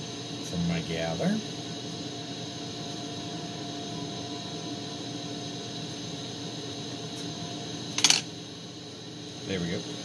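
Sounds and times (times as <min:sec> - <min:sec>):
faint steady hum: 0:00.0 - 0:10.0
torch hissing: 0:00.0 - 0:10.0.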